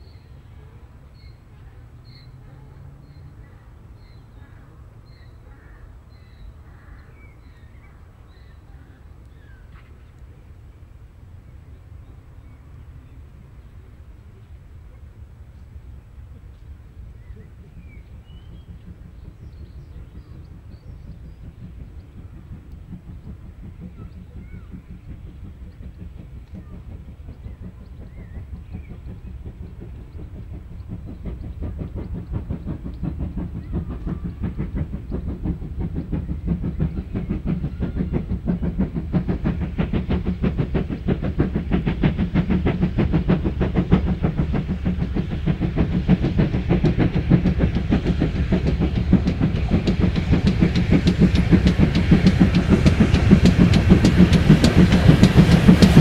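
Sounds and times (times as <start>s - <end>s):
steam locomotive exhaust beats: 0.0s - 56.0s
train wheels rumbling: 0.0s - 56.0s.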